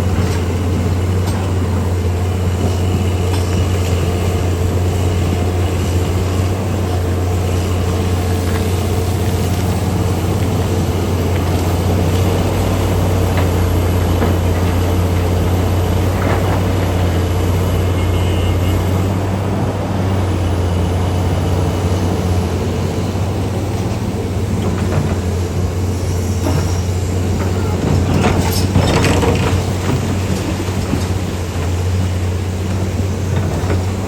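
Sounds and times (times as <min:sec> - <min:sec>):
heavy diesel engines droning: 0:00.0 - 0:34.0.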